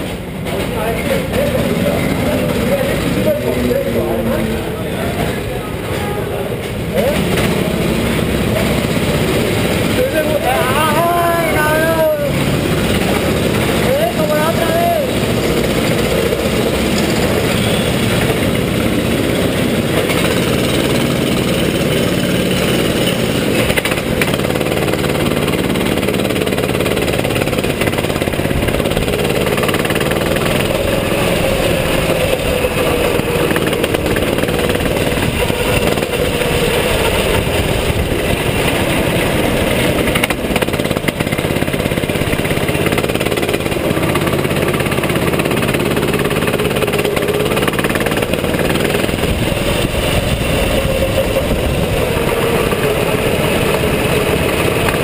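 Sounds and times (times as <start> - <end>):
go-kart engine running: 0.0 - 55.0
other go-kart engines: 0.0 - 55.0.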